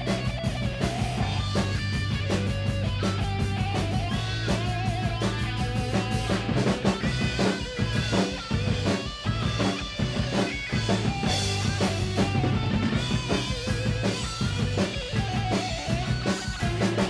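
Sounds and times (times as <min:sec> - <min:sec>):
drum kit playing: 0:00.0 - 0:17.0
electric guitar notes bending: 0:00.0 - 0:17.0.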